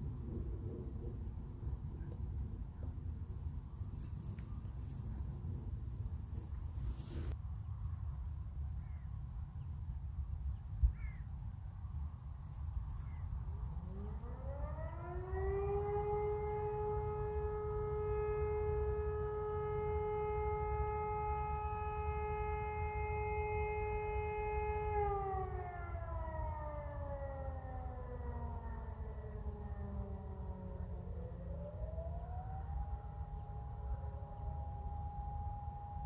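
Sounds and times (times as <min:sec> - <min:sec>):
civil defence warning siren: 0:00.0 - 0:07.4, 0:11.4 - 0:36.0.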